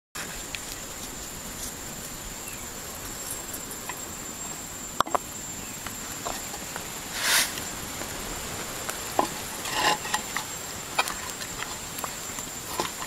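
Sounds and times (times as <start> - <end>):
constant hiss: 0.2 - 13.0
high insect whine: 0.2 - 13.0.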